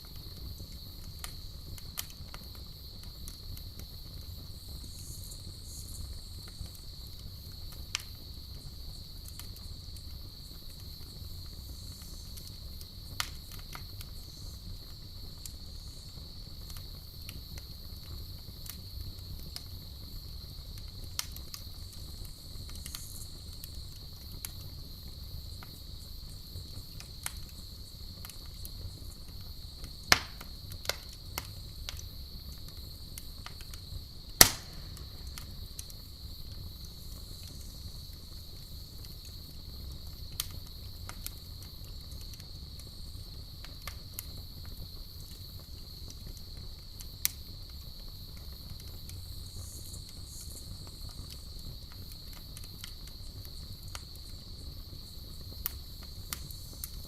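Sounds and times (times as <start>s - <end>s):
campfire crackling: 0.0s - 57.0s
low rumble of fire: 0.0s - 57.0s
crickets chirring: 0.1s - 57.0s.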